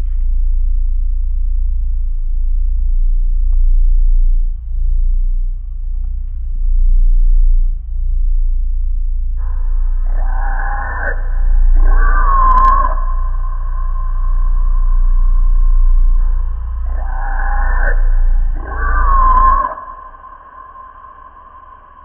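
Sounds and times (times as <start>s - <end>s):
low rumbling ambient music drone: 0.0s - 22.0s.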